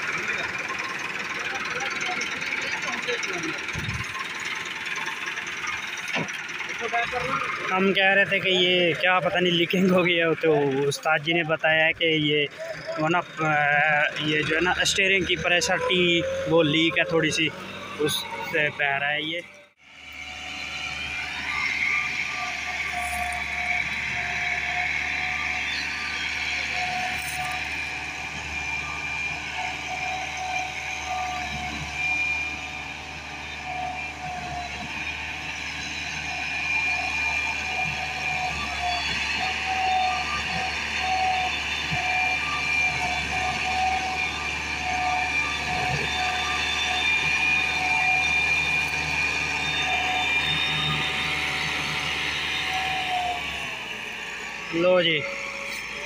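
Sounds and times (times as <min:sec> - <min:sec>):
high whine: 0:00.0 - 0:56.0
tractor diesel engine running: 0:00.0 - 0:56.0.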